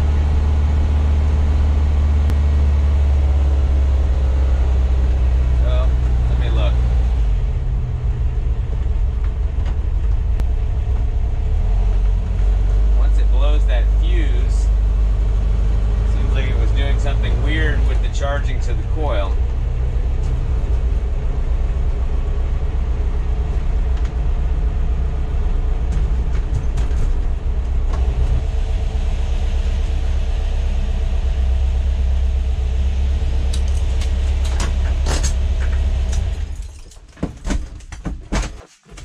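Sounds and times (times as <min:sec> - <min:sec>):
engine running steadily: 0:00.0 - 0:37.7.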